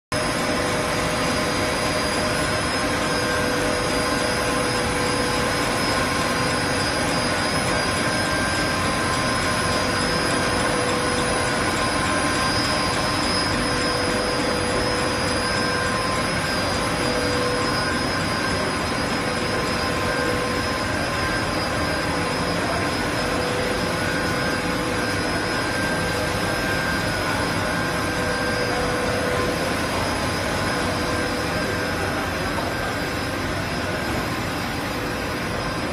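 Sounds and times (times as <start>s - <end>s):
machinery drone: 0.1s - 35.9s
steady whining tones: 0.1s - 35.9s.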